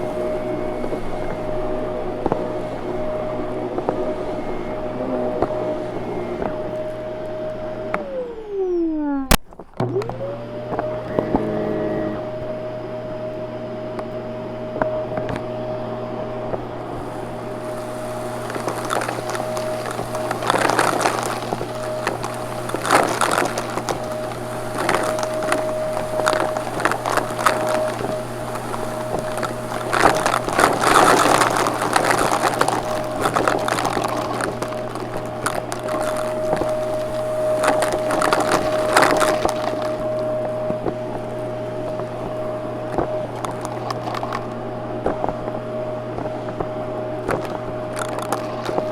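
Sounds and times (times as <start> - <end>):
debris crackling in vacuum: 0.0 - 48.9
vacuum cleaner whining: 0.0 - 48.9.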